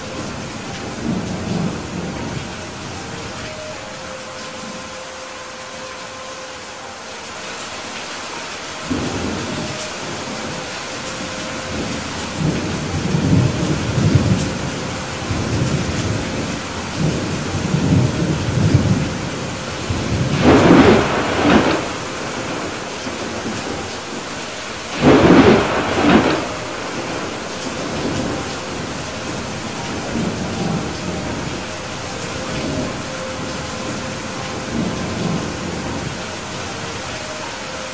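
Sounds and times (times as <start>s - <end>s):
thunder rumbling: 0.0s - 4.9s, 8.8s - 37.3s
steady hiss of rain: 0.0s - 37.9s.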